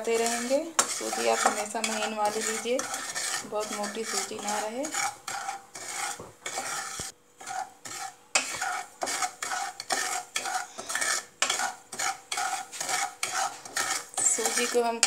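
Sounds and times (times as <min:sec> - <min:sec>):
spatula scraping dry grains: 0:00.0 - 0:15.0.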